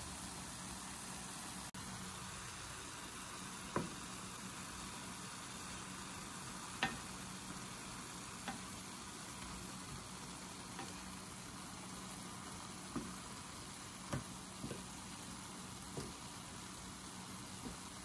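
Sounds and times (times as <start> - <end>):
food sizzling in pan: 0.0 - 18.0.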